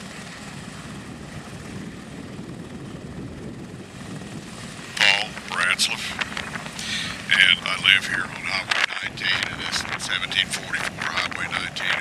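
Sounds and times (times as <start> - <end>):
helicopter turbine and rotor whirring: 0.0 - 12.0.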